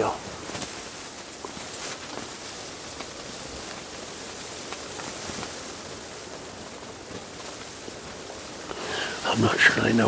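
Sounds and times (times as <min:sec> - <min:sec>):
blizzard wind and snow hiss: 0:00.0 - 0:10.0.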